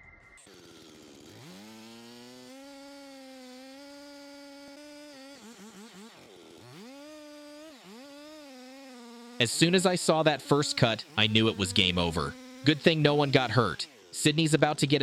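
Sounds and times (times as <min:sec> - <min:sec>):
chainsaw engine revving: 0:00.4 - 0:15.0.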